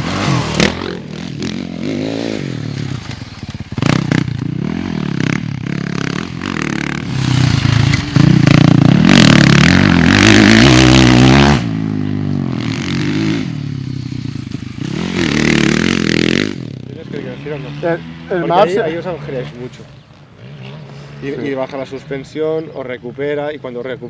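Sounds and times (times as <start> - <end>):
motocross bike engine revving: 0.0 - 23.3.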